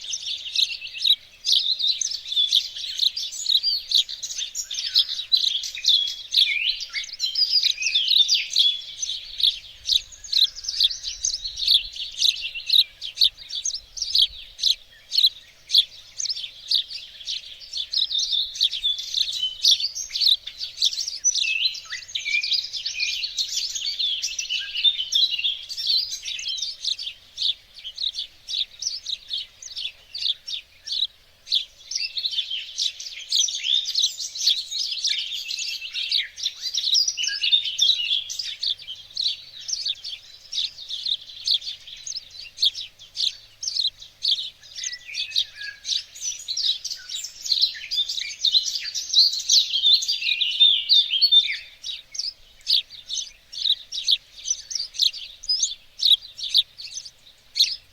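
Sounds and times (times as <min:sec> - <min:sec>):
songbirds chirping and twittering: 0:00.0 - 0:57.9.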